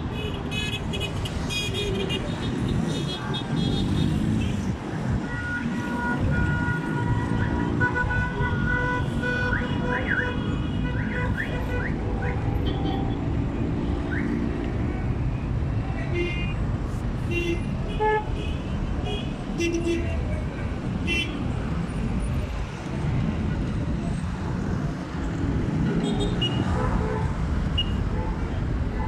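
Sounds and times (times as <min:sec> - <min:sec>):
street traffic rumbling: 0:00.0 - 0:29.0.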